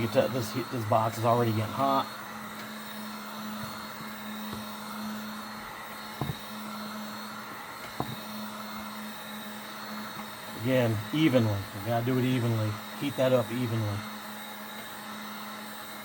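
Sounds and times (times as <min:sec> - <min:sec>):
heat gun humming: 0:00.0 - 0:16.0.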